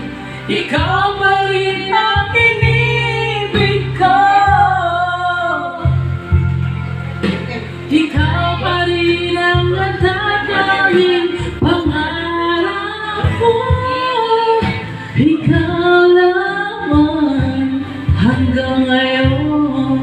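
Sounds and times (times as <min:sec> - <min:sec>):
karaoke backing track: 0:00.0 - 0:20.0
woman singing into a microphone: 0:00.3 - 0:06.2, 0:07.9 - 0:20.0.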